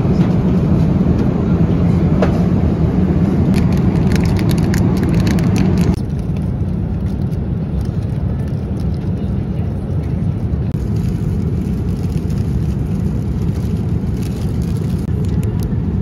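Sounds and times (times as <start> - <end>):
engine rumble inside vehicle: 0.0 - 16.0.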